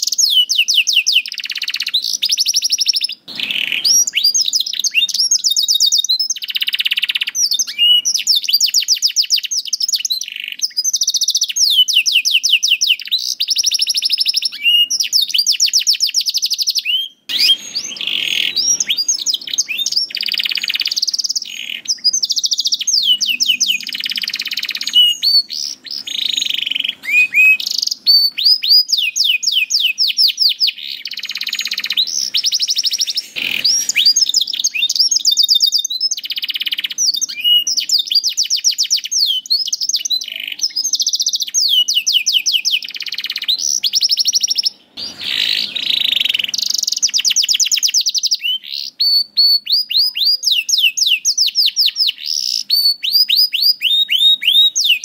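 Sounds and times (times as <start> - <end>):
canary singing rapid trills: 0.0 - 55.0.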